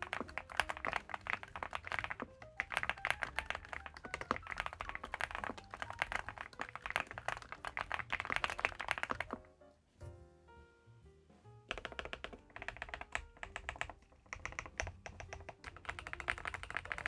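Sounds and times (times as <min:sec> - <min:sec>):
fast typing on mechanical keyboard: 0:00.0 - 0:09.5, 0:11.7 - 0:17.0
quiet background music: 0:00.0 - 0:17.0.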